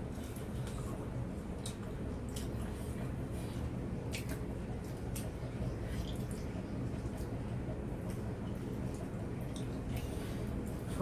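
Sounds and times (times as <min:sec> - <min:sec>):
steady low hum: 0:00.0 - 0:11.0
wet chewing: 0:00.1 - 0:07.4, 0:08.0 - 0:10.9.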